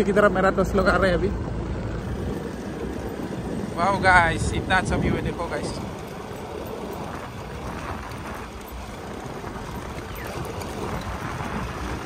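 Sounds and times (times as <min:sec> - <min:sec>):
motor scooter engine running: 0:00.0 - 0:12.0
road noise: 0:00.0 - 0:12.0
wind rushing: 0:01.3 - 0:12.0.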